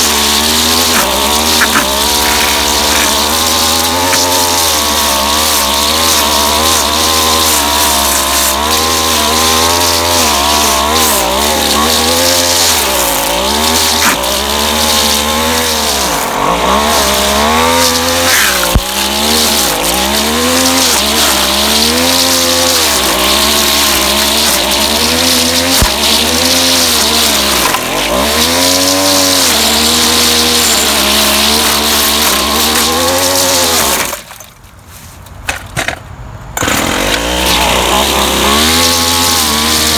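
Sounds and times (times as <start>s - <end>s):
string trimmer engine revving: 0.0s - 34.2s, 36.6s - 39.9s.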